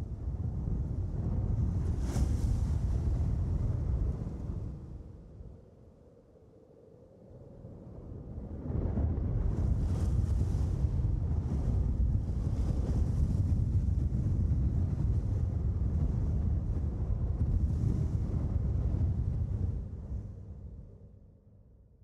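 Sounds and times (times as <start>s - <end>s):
wind blowing in gusts: 0.0s - 21.2s.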